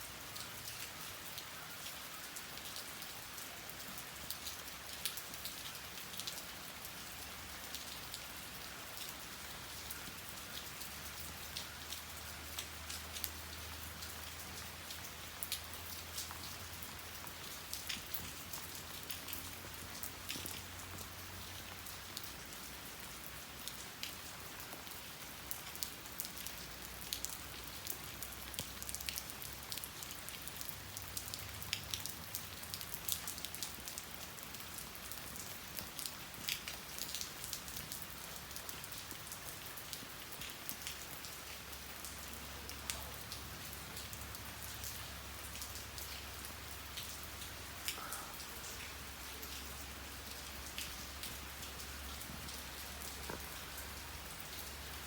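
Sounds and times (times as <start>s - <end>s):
rain falling: 0.0s - 55.0s
raindrops striking close by: 0.0s - 55.0s.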